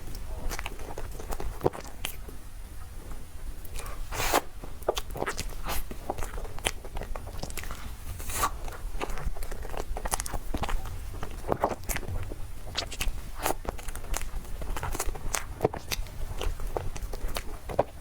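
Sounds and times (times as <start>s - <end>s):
person chewing cake: 0.0s - 18.0s.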